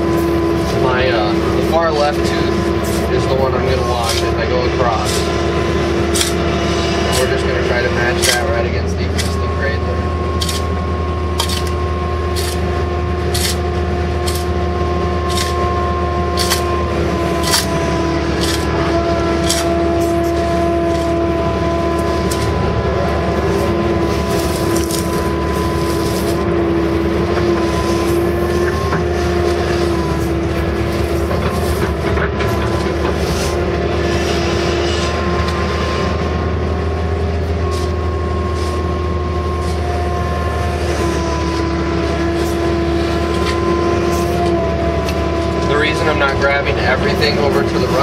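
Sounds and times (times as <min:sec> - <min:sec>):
excavator engine and hydraulics humming: 0:00.0 - 0:48.0
hydraulic whine: 0:00.0 - 0:48.0.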